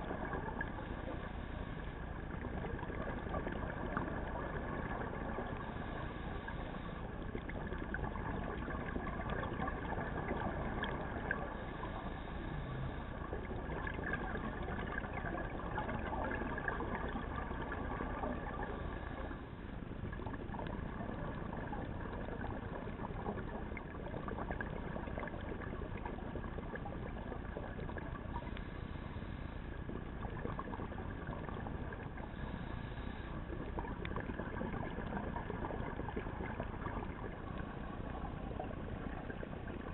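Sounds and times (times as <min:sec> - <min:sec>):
faint steady tones: 0:00.0 - 0:39.9
underwater hiss and rumble: 0:00.0 - 0:39.9.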